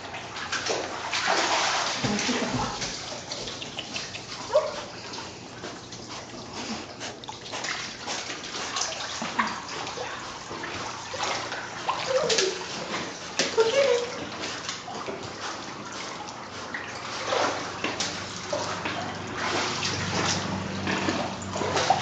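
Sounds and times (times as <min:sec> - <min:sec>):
dog swimming and splashing: 0:00.0 - 0:22.0.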